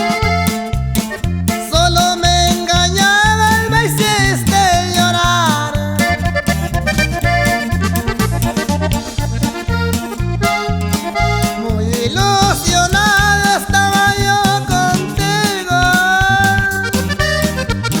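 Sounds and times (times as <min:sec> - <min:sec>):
accordion music: 0:00.0 - 0:18.0
repeating bass beat: 0:00.0 - 0:18.0.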